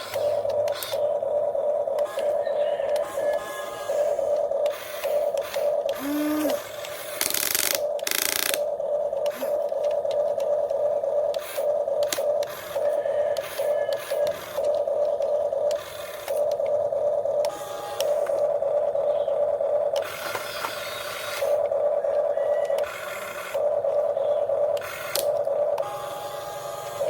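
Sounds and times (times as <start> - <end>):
small electric motor whining: 0.0 - 16.8, 17.4 - 18.8, 19.4 - 27.0.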